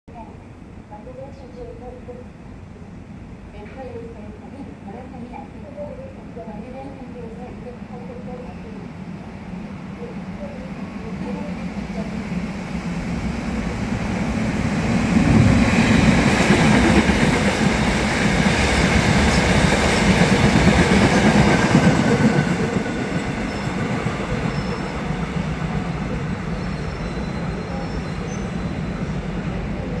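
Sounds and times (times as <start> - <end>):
freight train rumbling past: 4.1 - 30.0.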